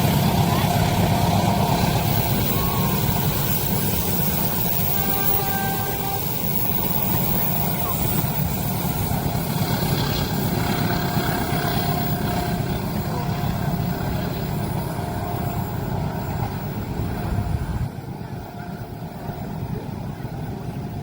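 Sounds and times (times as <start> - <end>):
train wheels clattering on rail: 0.0 - 21.0.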